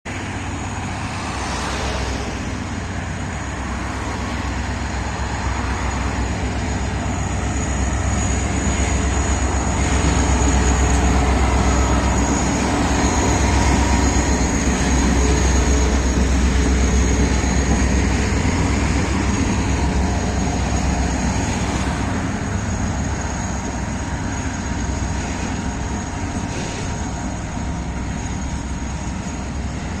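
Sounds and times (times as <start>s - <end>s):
diesel locomotive engines droning: 0.0s - 30.0s
high-pitched whine: 0.1s - 30.0s.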